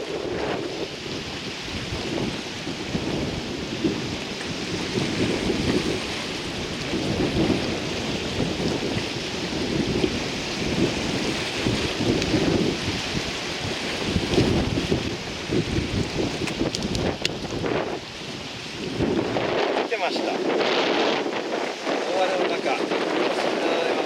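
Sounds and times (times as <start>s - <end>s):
wind and rain: 0.0s - 24.0s
wind gusts on microphone: 0.0s - 24.0s.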